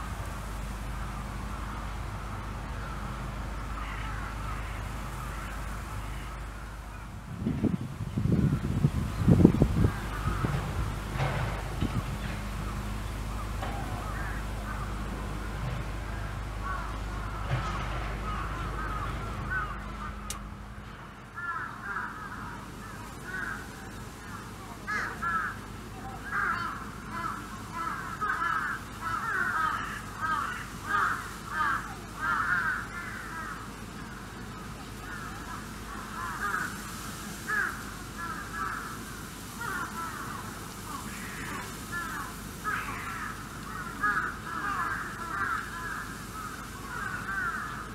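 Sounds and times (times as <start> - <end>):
harsh crow-like animal calls: 0.0 - 7.2, 8.2 - 47.9
low steady hum: 0.0 - 47.9.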